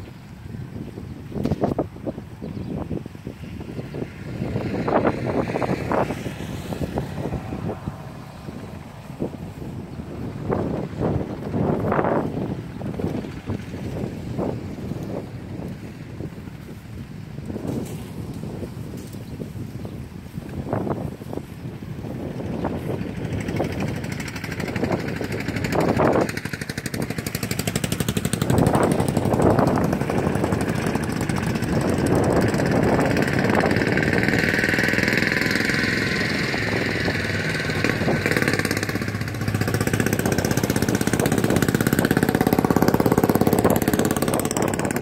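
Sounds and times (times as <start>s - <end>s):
vehicle engine running: 0.0s - 45.0s
wind buffeting microphone: 0.0s - 45.0s.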